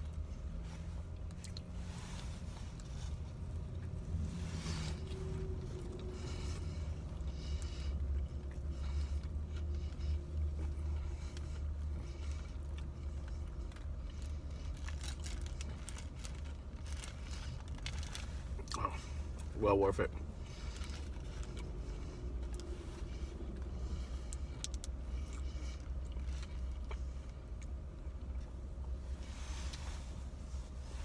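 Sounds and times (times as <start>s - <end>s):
man chewing food: 0.0s - 19.5s, 20.2s - 30.8s.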